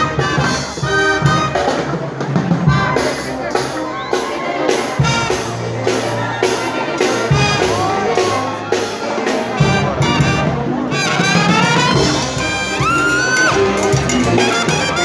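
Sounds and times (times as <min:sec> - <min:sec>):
brass band playing: 0:00.0 - 0:15.0
drums keeping a steady beat: 0:00.0 - 0:15.0.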